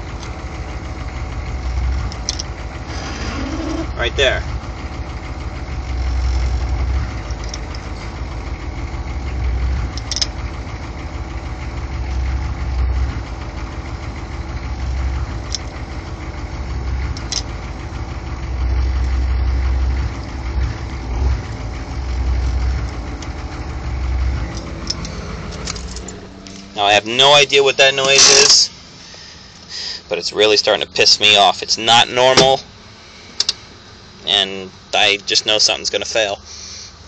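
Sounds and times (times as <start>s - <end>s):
low mechanical groan: 0.0s - 34.3s
diesel engine idling: 0.0s - 37.0s.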